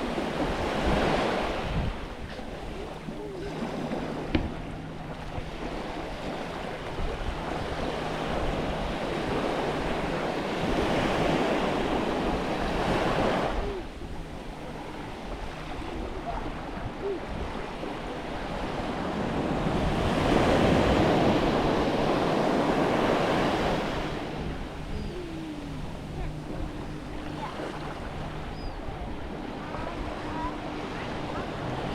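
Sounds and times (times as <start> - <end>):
small waves breaking on beach: 0.0 - 31.9
wind on microphone: 0.0 - 31.9.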